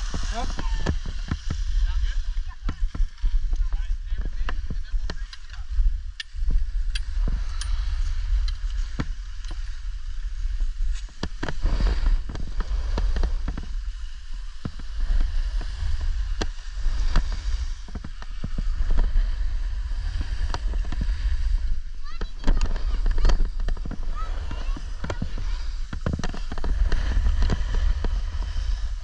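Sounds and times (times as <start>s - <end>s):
skis scraping on snow: 0.0s - 29.0s
wind rumble on microphone: 0.0s - 29.0s.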